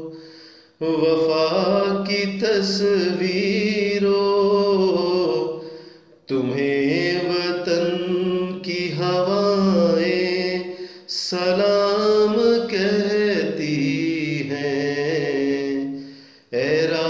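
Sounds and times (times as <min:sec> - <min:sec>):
wordless singing: 0:00.0 - 0:17.0.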